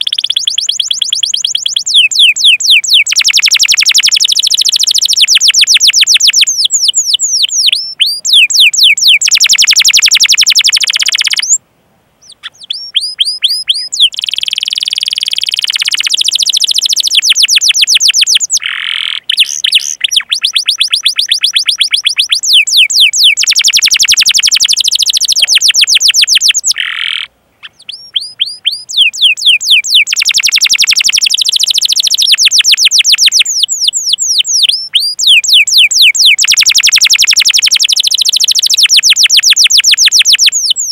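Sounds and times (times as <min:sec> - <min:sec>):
canary singing rolling trills: 0:00.0 - 0:11.6, 0:12.2 - 0:40.9.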